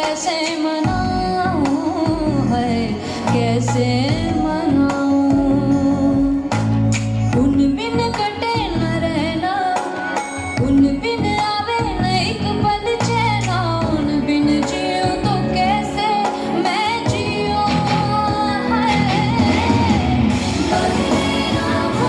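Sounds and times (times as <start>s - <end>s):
instruments with steady bass: 0.8s - 22.0s.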